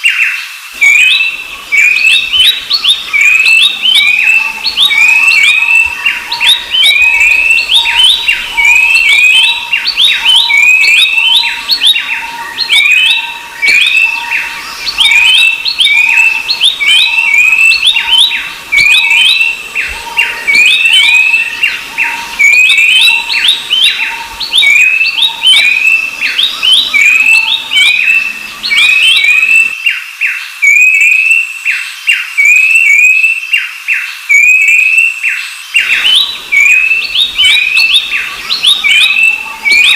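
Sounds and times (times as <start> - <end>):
babblers chirping: 0.8 - 29.7, 35.8 - 39.9.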